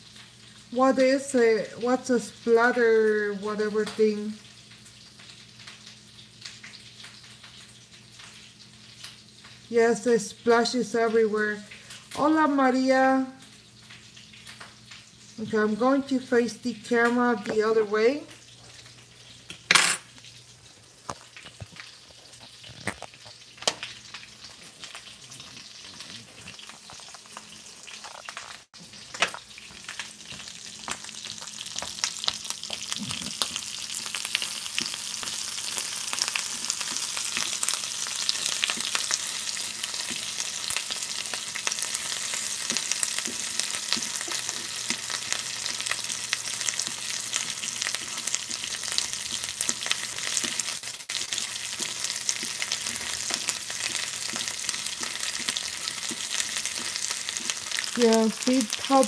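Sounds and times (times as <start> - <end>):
sausage sizzling in oil: 0.0 - 59.0.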